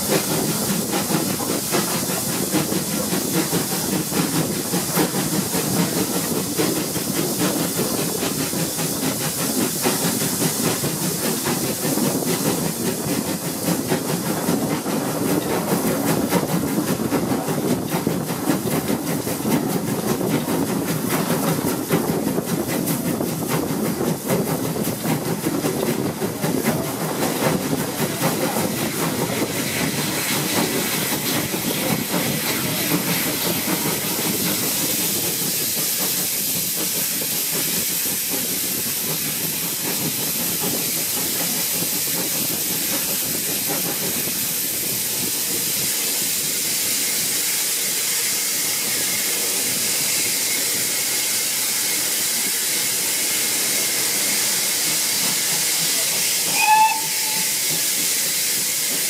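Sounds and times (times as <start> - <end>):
steam hiss: 0.0 - 59.0
steam locomotive exhaust beats: 0.0 - 59.0
wheels on rail: 0.0 - 59.0.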